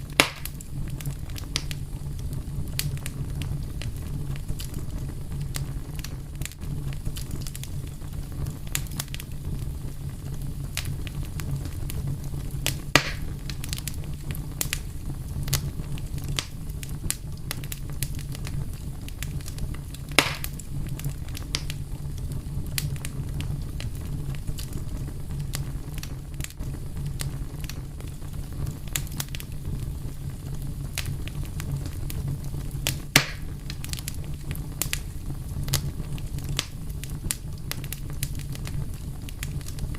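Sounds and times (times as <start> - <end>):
fire crackling: 0.0 - 39.9
loud pops from fire: 0.0 - 39.9.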